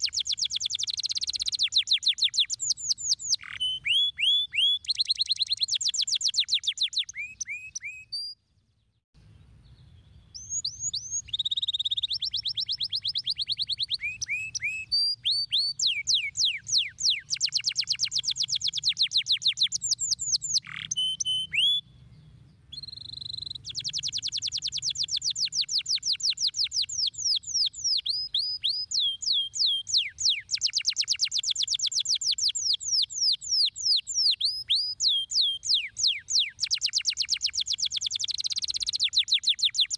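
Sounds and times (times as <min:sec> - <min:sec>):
canary singing trills: 0:00.0 - 0:08.4, 0:09.7 - 0:39.9.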